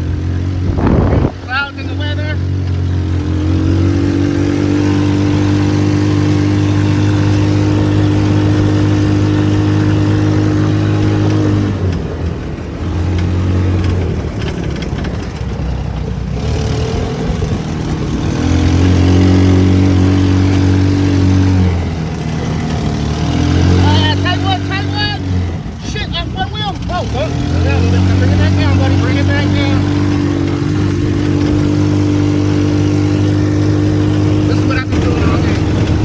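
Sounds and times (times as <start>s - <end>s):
rough rattling noise: 0.0s - 36.0s
single-cylinder engine at high speed: 0.0s - 36.0s.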